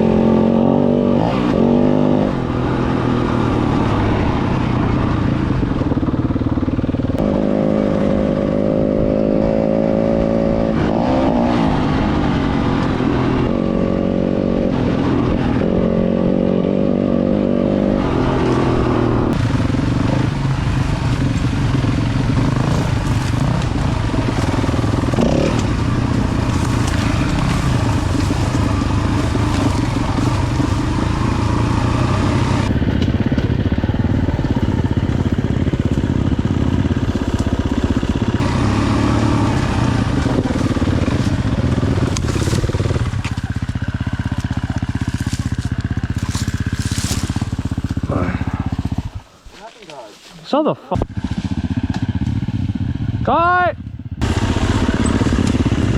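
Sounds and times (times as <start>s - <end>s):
dirt bike engine: 0.0s - 55.9s.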